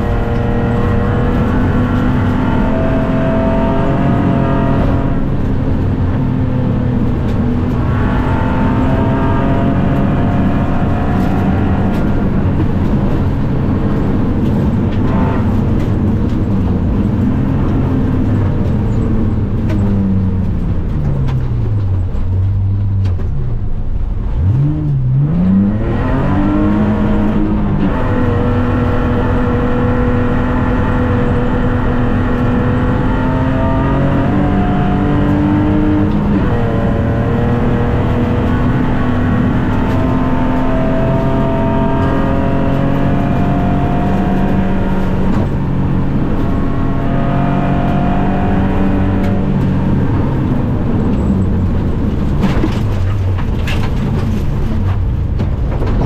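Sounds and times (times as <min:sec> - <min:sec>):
rally car engine at high revs: 0:00.0 - 0:56.0.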